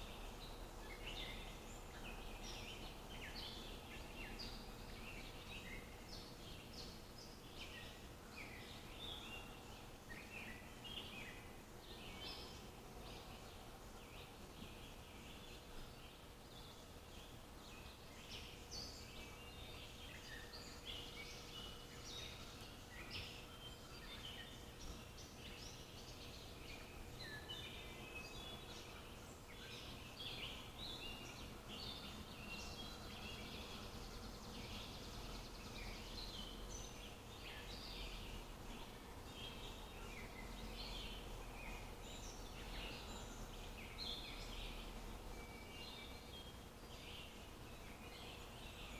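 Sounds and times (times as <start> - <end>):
faint low hum: 0.0 - 48.9
songbirds chirping: 0.0 - 48.9.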